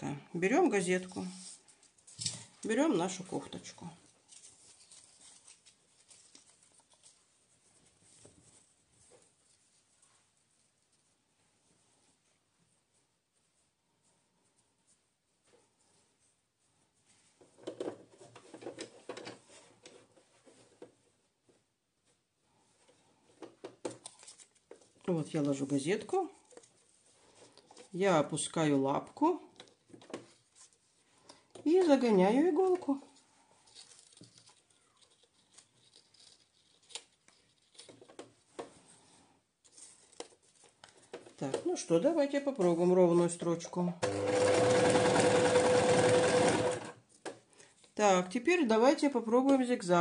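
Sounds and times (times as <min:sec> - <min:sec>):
fabric rustling and handling: 0:00.8 - 0:43.3.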